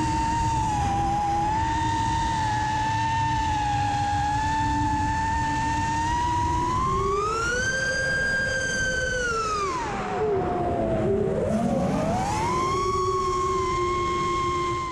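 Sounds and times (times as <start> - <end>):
drone motors whining: 0.0 - 14.9.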